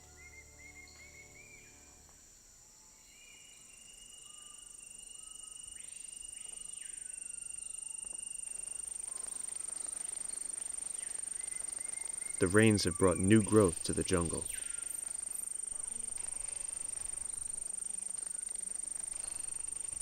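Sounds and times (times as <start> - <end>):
high pulsing insect trill: 0.0 - 20.0
steady insect tones: 0.0 - 20.0.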